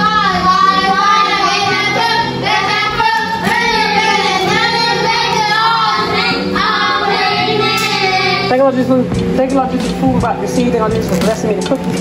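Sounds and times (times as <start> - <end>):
steady musical backing: 0.0 - 12.0.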